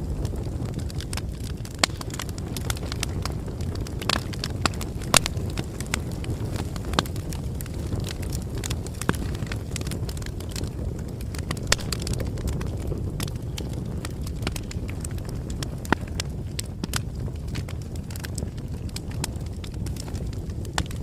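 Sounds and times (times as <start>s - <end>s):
bonfire flames rumbling: 0.0s - 21.0s
burning wood crackling: 0.0s - 21.0s.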